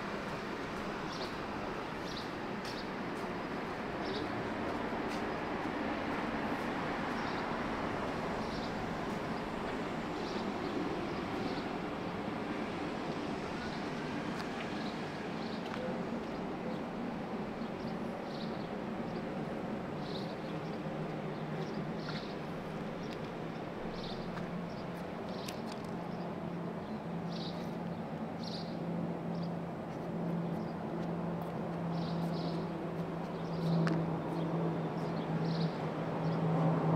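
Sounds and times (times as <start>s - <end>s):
passing traffic drone: 0.0s - 36.9s.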